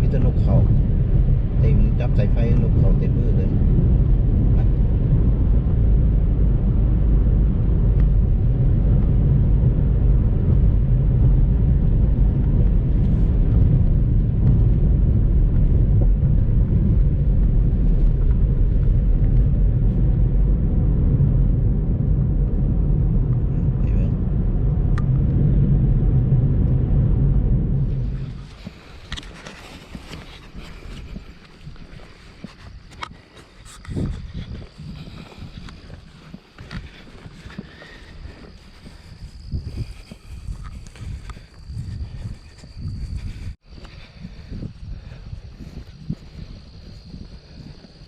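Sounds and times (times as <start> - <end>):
car rumbling on road: 0.0 - 48.0.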